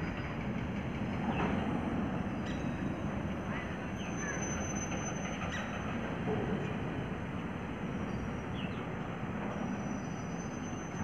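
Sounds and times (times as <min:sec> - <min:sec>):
train wagons rumbling on track: 0:00.0 - 0:11.0.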